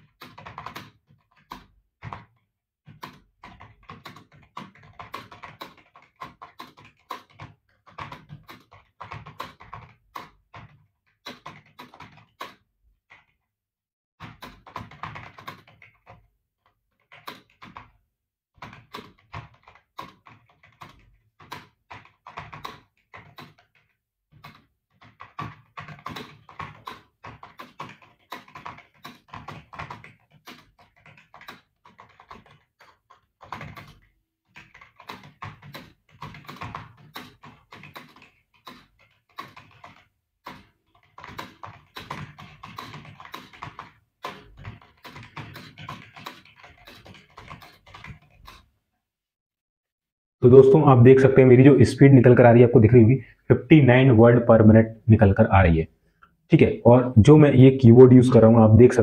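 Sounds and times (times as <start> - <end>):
fast typing on keyboard: 0.0 - 13.5, 14.2 - 48.8.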